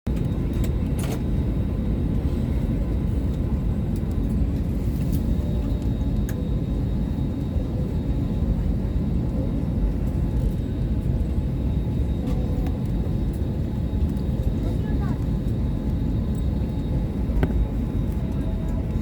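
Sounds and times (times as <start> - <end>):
aircraft cabin low rumble: 0.1 - 19.0.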